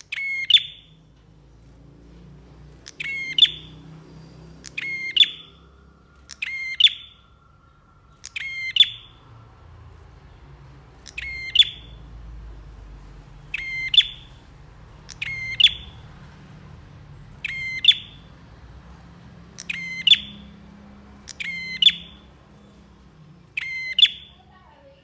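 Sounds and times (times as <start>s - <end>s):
bird clicking call: 0.0s - 1.0s, 2.8s - 7.4s, 8.1s - 9.2s, 10.9s - 24.4s.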